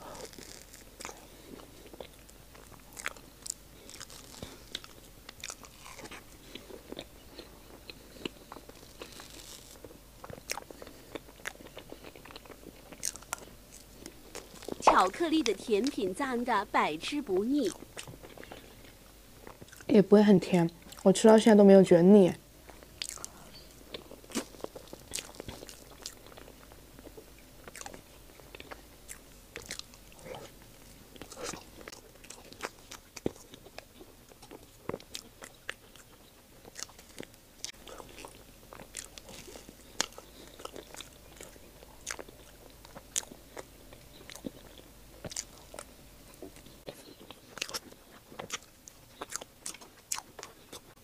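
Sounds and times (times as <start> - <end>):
wet mouth chewing sounds: 0.0 - 19.9, 20.8 - 21.1, 22.6 - 51.0.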